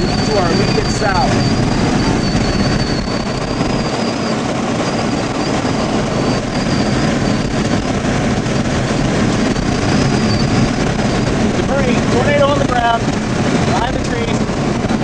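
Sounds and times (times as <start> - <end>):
thin high whine: 0.0 - 14.3
car road and engine noise: 0.0 - 15.0.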